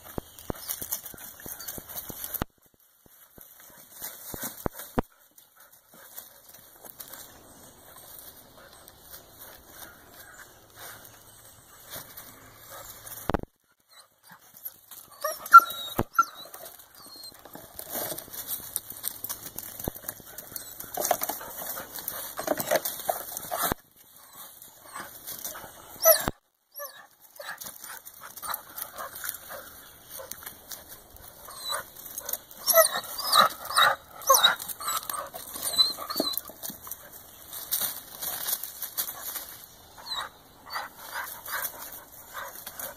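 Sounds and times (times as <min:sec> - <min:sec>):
scratching in dry leaves: 0:00.0 - 0:13.3, 0:14.2 - 0:26.2, 0:26.8 - 0:42.9
dogs whining and yipping: 0:00.4 - 0:02.4, 0:07.0 - 0:18.7, 0:19.6 - 0:37.6, 0:40.0 - 0:42.9.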